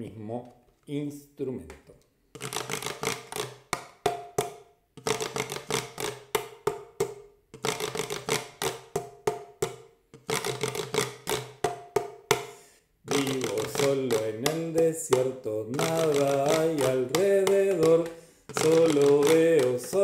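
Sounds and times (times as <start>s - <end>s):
stick tapping plastic bottle: 1.6s - 20.0s
stick scraping plastic bottle: 1.8s - 12.5s, 13.1s - 20.0s.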